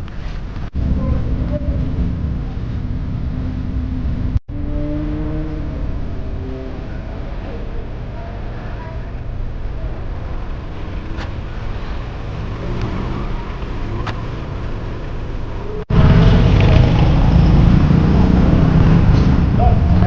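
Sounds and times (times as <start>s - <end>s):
vehicle and road rumble: 0.0s - 20.0s.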